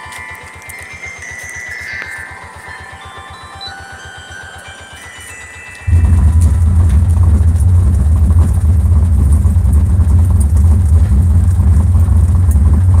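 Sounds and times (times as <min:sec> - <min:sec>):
three-wheeler engine rumble: 0:02.2 - 0:13.0.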